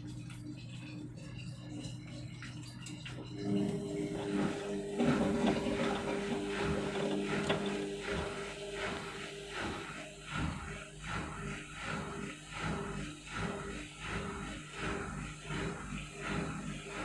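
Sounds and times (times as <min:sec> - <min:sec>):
washing machine drum pulsing: 0:00.0 - 0:17.0
washing machine hum: 0:00.0 - 0:17.0.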